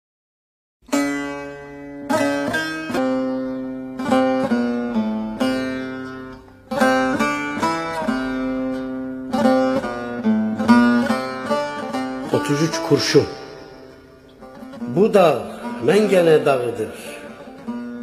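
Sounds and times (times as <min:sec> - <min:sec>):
plucked string instrument melody: 0:00.9 - 0:18.0.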